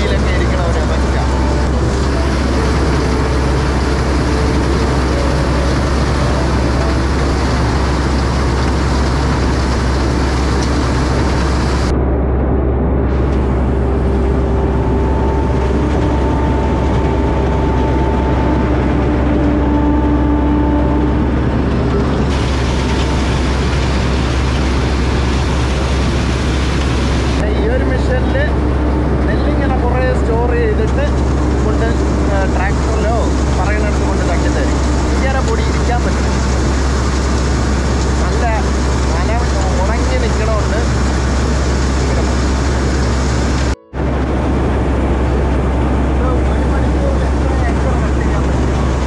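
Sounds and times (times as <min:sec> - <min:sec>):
combine harvester engine drone: 0:00.0 - 0:49.0
faint machinery whines: 0:00.0 - 0:49.0.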